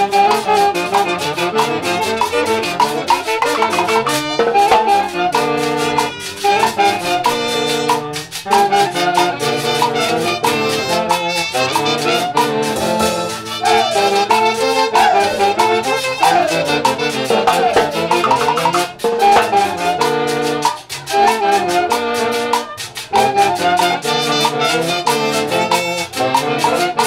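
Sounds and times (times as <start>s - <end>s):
percussion beat: 0.0s - 27.0s
trumpets and saxophones playing: 0.0s - 27.0s.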